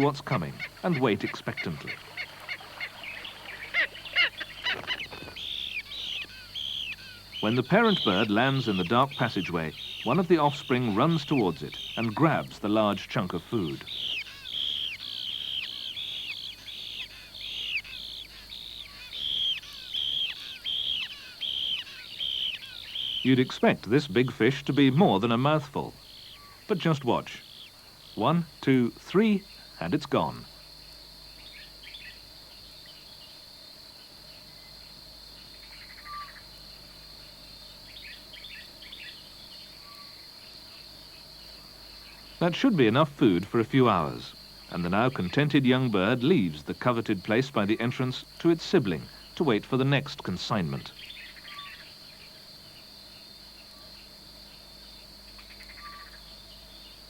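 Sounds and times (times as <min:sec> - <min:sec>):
nestlings calling: 0:00.0 - 0:30.7, 0:37.3 - 0:52.9
insect chirring: 0:00.0 - 0:57.0.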